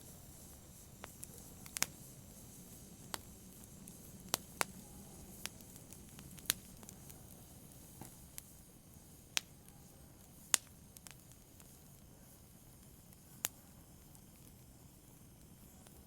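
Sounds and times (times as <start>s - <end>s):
soft steady hiss: 0.0s - 16.0s
wood fire crackling: 0.0s - 16.0s.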